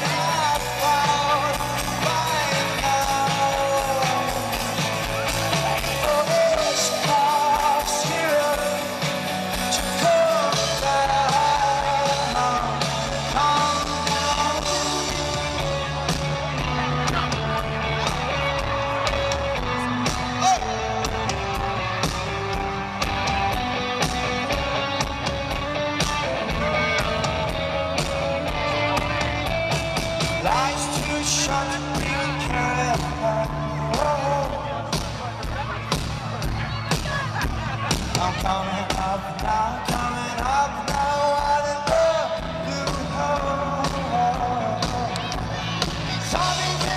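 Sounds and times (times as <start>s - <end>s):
lead singer singing: 0.0s - 46.9s
rock band playing live: 0.0s - 46.9s.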